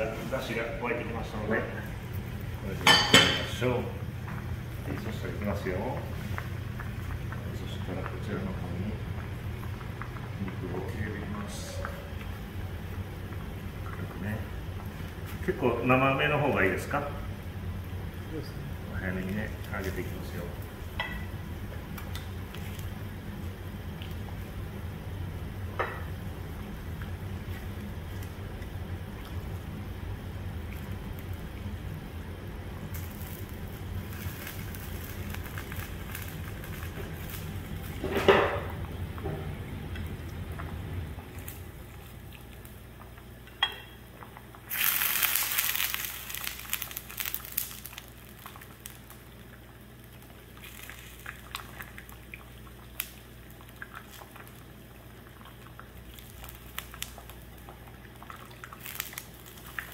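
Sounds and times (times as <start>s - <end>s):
broth simmering in a pot: 0.0s - 59.9s.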